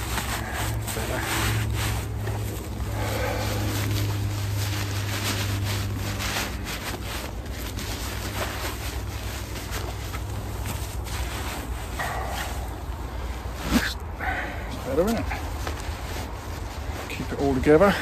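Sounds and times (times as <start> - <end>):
crinkling: 0.0 - 18.0
netting rustling and scraping: 0.0 - 18.0.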